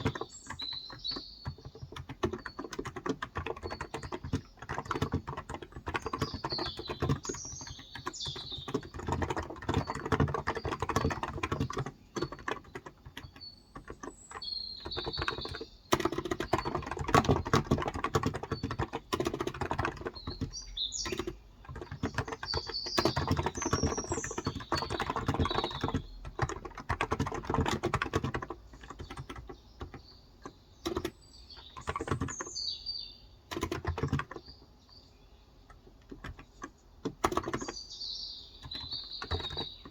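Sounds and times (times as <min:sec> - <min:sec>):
typing on a keyboard: 0:00.0 - 0:32.6, 0:33.5 - 0:34.7, 0:35.6 - 0:37.9, 0:38.6 - 0:39.9
birds chirping: 0:00.0 - 0:39.9.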